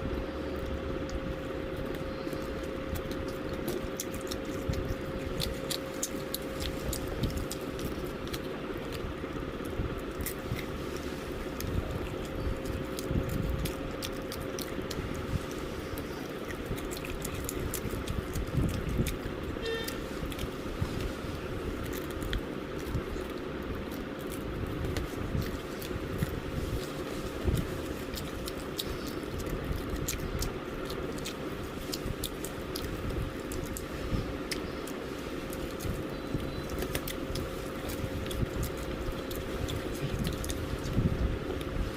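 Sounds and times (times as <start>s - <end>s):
crunchy chewing: 0.0s - 41.9s
faint steady hum: 0.0s - 41.9s.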